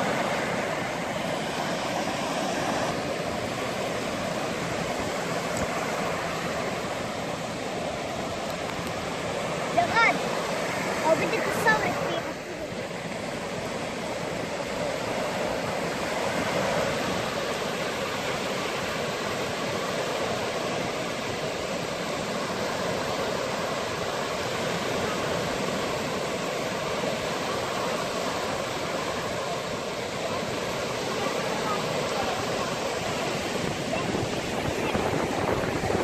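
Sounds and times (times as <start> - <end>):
waves washing onto sandy beach: 0.0 - 36.0.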